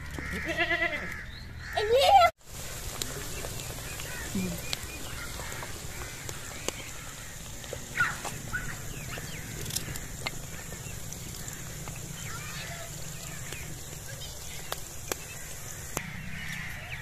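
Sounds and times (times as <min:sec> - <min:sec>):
short bird calls: 0:03.2 - 0:17.0.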